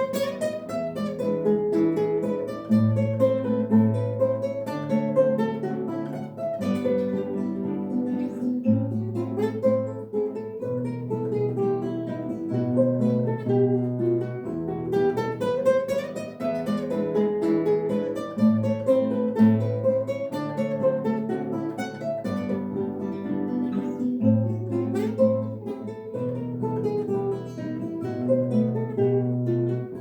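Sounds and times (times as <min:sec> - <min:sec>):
acoustic guitar ensemble folk melody: 0:00.0 - 0:30.0.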